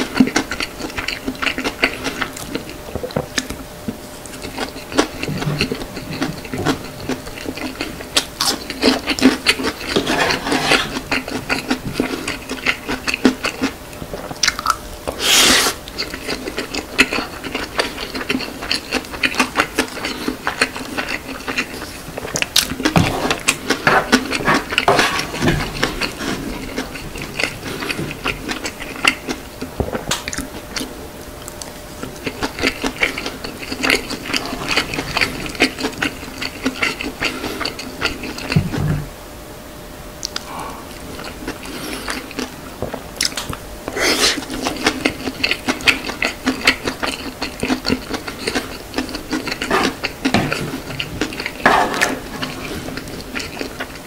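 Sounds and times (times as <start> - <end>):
close chewing and biting: 0.0 - 38.8, 40.2 - 54.0.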